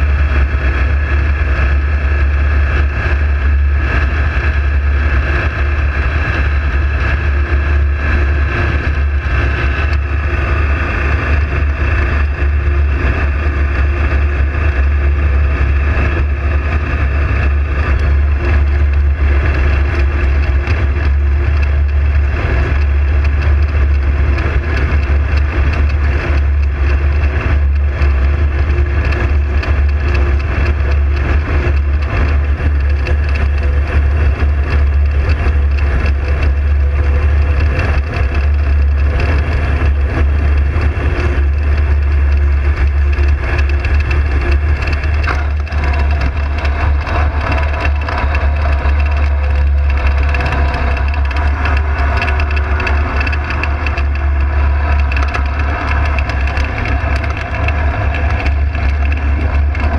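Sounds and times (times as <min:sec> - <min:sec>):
loud engine drone: 0:00.0 - 0:59.9.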